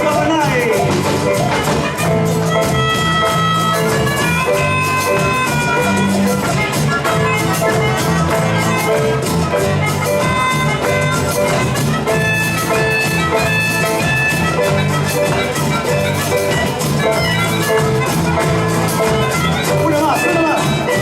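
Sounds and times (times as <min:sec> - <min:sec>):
live band playing instrumental: 0:00.0 - 0:21.0.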